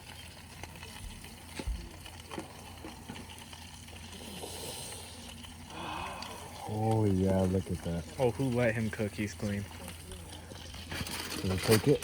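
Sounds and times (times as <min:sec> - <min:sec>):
steady low hum: 0:00.0 - 0:11.4
fish sizzling in a pan: 0:00.0 - 0:12.0.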